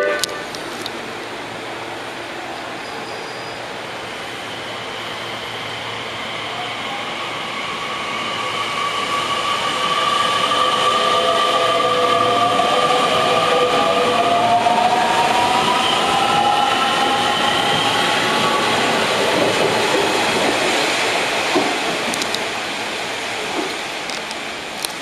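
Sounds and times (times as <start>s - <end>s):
electric train accelerating: 0.0s - 25.0s.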